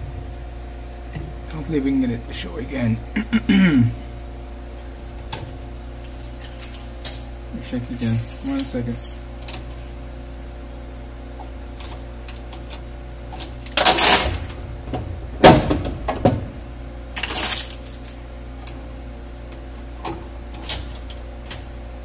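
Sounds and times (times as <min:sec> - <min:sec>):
dishwasher humming: 0:00.0 - 0:22.0.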